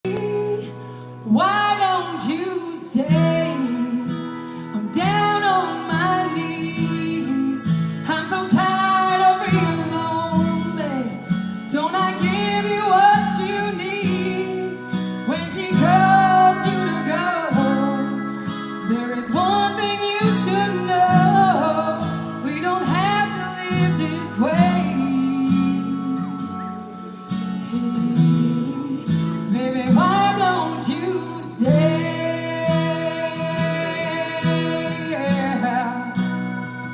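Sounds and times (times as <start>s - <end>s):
strummed acoustic guitar: 0.0s - 36.9s
woman singing: 0.0s - 36.9s.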